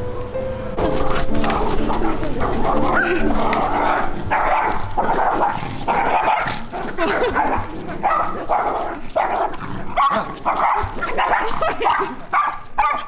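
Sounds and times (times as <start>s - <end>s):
dogs barking: 0.8s - 13.0s.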